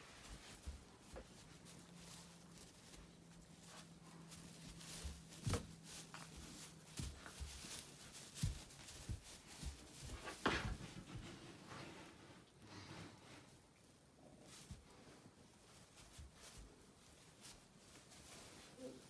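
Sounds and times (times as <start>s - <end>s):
puppies rustling in hay: 0.0s - 19.0s.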